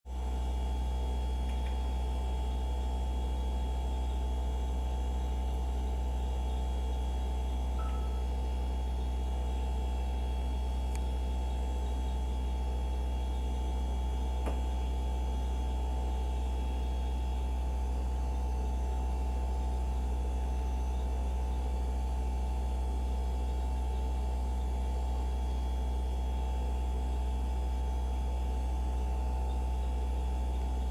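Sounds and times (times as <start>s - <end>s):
refrigerator buzz and hum: 0.1s - 30.9s.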